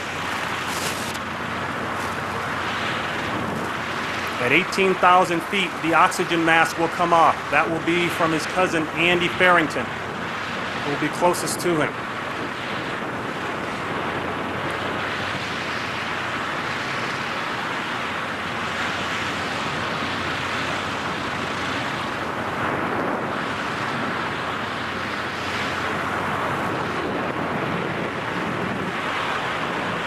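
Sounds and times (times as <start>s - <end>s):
wind rushing on microphone: 0.0s - 30.0s.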